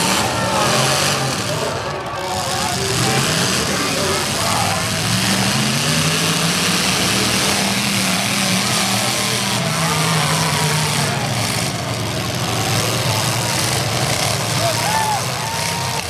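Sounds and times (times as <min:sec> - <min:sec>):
car engines running loudly: 0:00.0 - 0:16.0.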